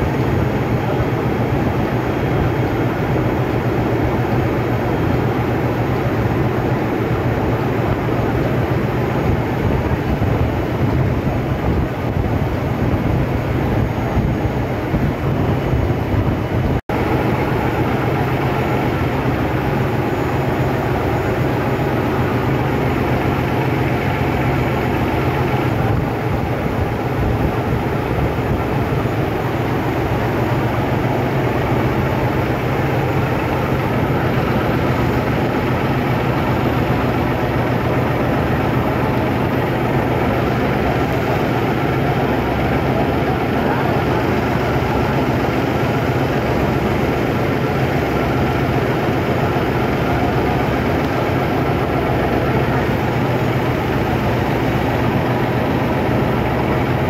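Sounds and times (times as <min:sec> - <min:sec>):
engine-room machinery drone: 0:00.0 - 0:57.0.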